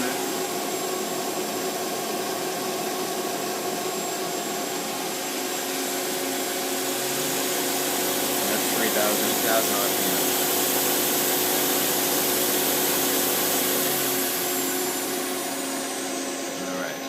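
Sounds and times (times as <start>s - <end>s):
lathe spindle whining: 0.0s - 17.0s.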